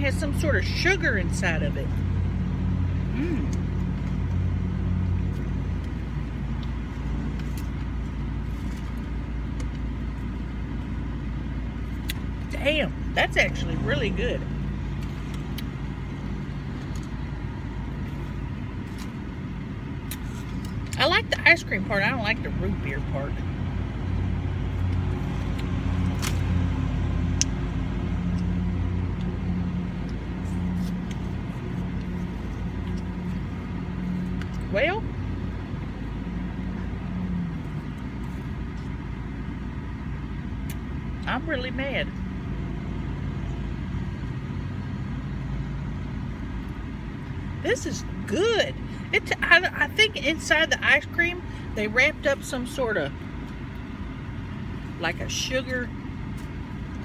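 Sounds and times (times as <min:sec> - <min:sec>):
air conditioning running: 0:00.0 - 0:57.0
car engine idling: 0:00.0 - 0:57.0.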